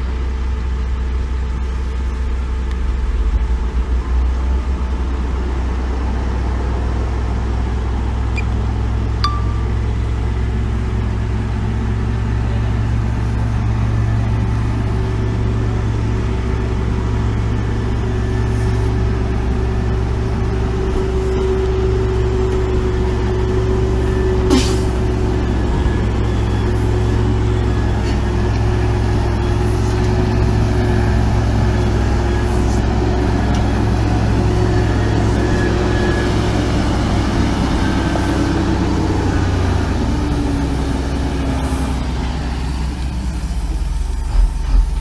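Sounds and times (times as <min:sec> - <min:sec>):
heavy diesel machinery running: 0:00.0 - 0:45.0.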